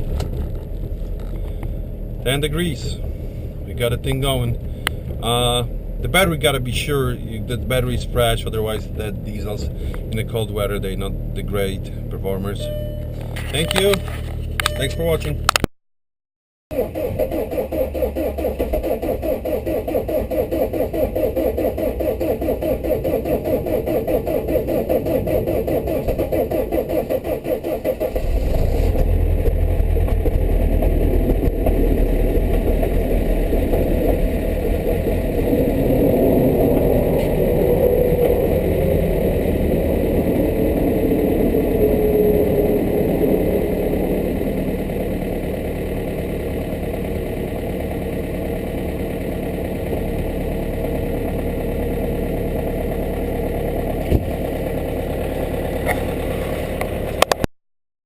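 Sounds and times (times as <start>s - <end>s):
diesel engine idling: 0.0s - 15.6s, 16.7s - 57.4s.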